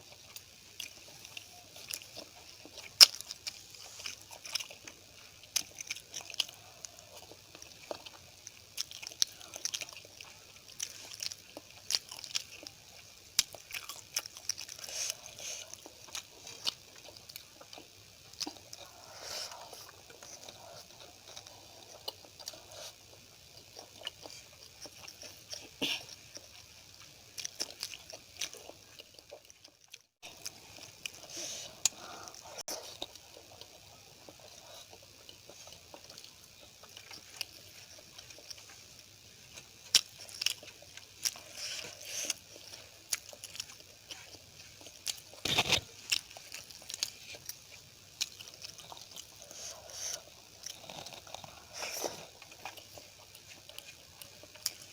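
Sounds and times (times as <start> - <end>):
person chewing with wet mouth sounds: 0.0 - 54.9.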